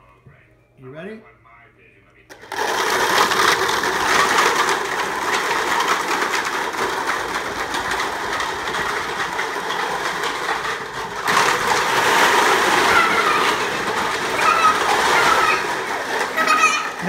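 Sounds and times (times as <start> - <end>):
plastic cups clattering: 2.3 - 17.0.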